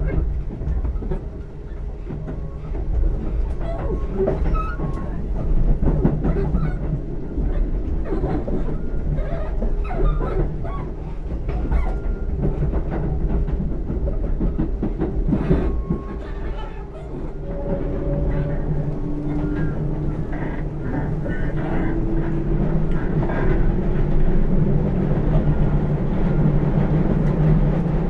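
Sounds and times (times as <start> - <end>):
electric train rumble and hum: 0.0 - 28.0
wheels clicking on track: 0.0 - 28.0.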